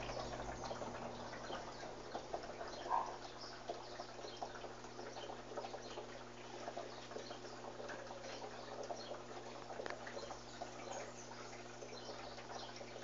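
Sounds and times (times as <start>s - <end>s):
washing machine humming: 0.0s - 13.0s
water splashing in tub: 0.0s - 13.0s.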